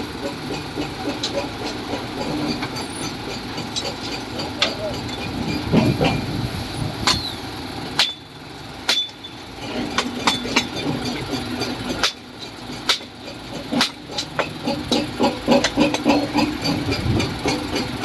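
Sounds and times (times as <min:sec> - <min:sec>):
sharp metallic knocks: 0:00.0 - 0:06.3, 0:07.0 - 0:18.0
engine running steadily: 0:00.0 - 0:18.0.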